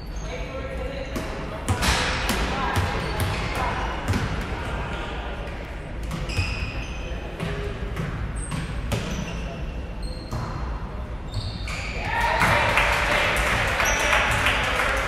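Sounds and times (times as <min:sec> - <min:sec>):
sneaker squeaks: 0:00.0 - 0:12.1, 0:13.8 - 0:14.4
voices echoing in hall: 0:00.0 - 0:15.0.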